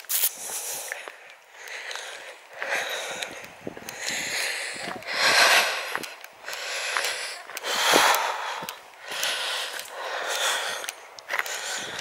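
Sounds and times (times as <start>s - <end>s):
faint footsteps on dirt: 0.0s - 12.0s
person breathing heavily: 0.2s - 12.0s.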